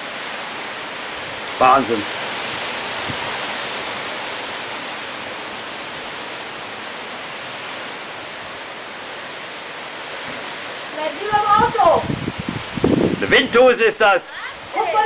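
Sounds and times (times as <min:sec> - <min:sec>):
strong storm wind rushing: 0:00.0 - 0:15.0.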